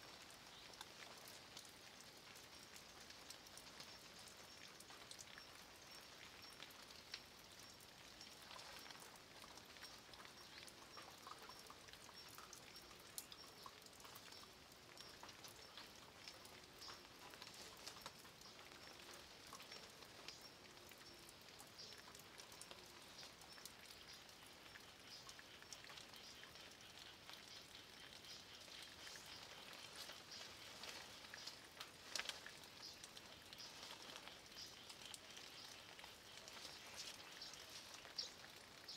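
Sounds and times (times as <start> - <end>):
faint rain on stone and leaves: 0.0 - 38.9
water drops ticking: 0.1 - 38.9.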